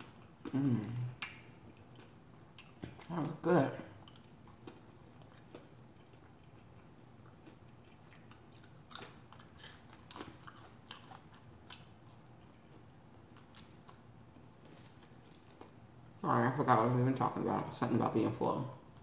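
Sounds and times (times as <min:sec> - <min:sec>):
chewing fried chicken: 0:00.0 - 0:16.2.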